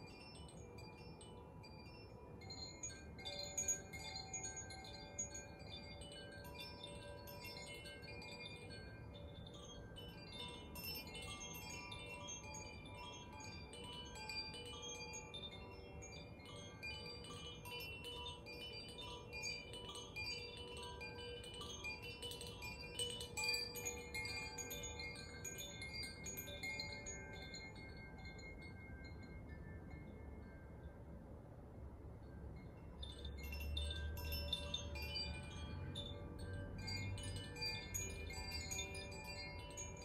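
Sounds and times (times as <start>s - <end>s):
wind chimes ringing: 0.0s - 40.0s.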